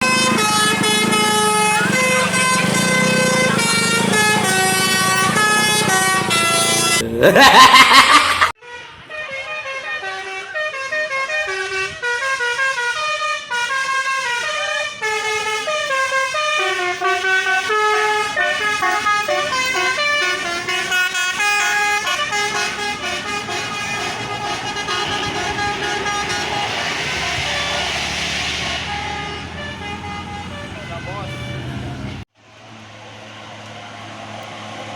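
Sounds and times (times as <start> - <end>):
multi-tone air horn melody: 0.0 - 7.1, 8.5 - 32.3.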